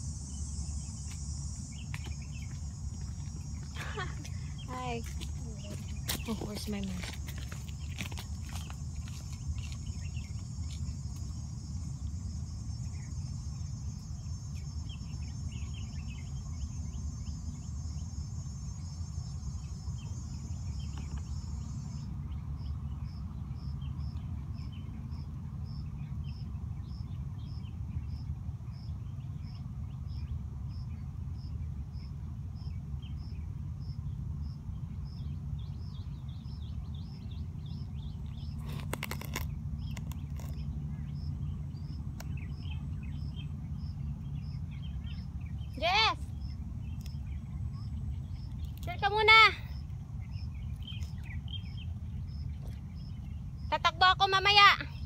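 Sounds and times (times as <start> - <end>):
insect chirping: 0.0 - 55.0
insects buzzing chorus: 0.0 - 55.0.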